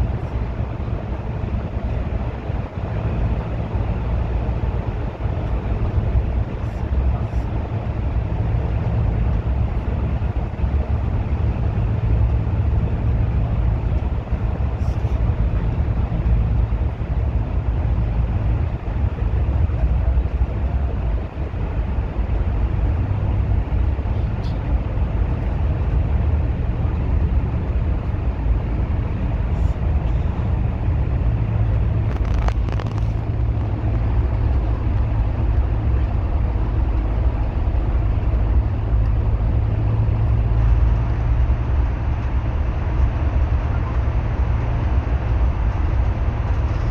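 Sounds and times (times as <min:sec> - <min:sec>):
bus engine and road rumble: 0:00.0 - 0:46.9.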